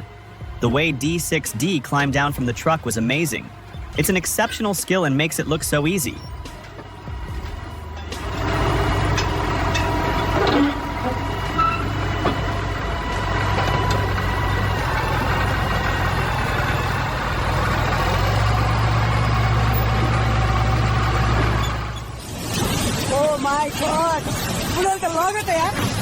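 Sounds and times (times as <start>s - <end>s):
heavy machinery engine humming: 0.0s - 26.0s.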